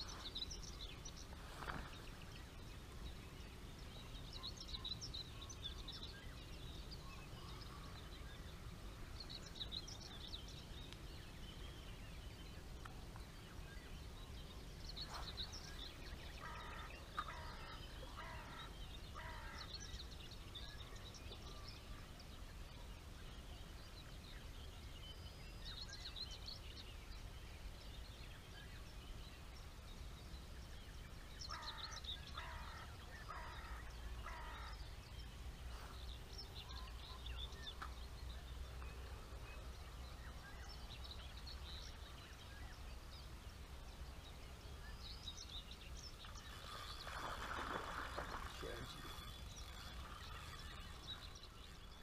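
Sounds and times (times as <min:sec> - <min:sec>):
birds singing and calling: 0:00.0 - 0:52.0.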